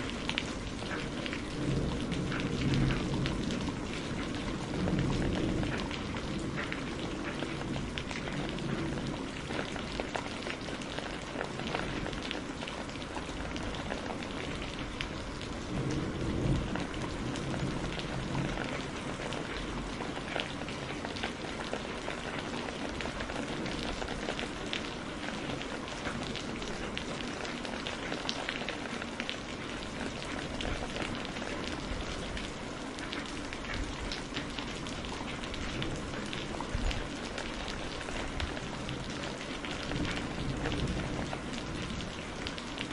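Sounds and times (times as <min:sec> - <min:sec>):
low rumble of thunder: 0:00.0 - 0:42.9
steady rain falling: 0:00.0 - 0:42.9.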